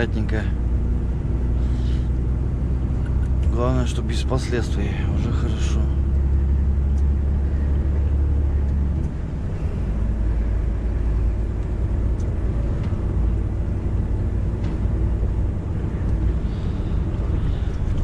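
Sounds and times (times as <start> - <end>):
diesel engine droning: 0.0 - 18.0
road noise: 0.0 - 18.0.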